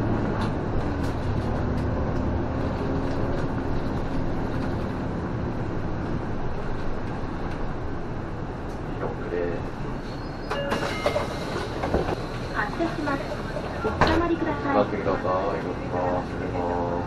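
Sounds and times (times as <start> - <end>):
bus engine hum: 0.0 - 17.0
road noise: 0.0 - 17.0.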